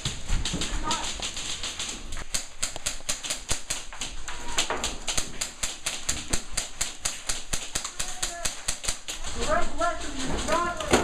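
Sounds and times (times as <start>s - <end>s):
airsoft guns firing: 0.0s - 9.6s.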